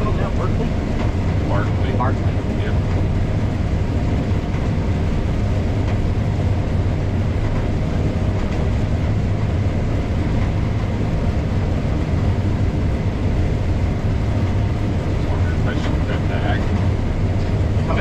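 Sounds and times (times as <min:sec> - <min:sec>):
combine harvester droning: 0:00.0 - 0:18.0.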